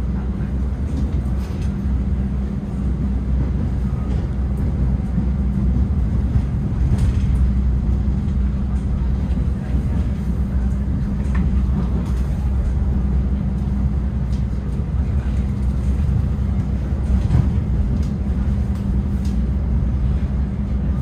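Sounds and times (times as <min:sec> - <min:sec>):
train carriage rumble: 0:00.0 - 0:21.0.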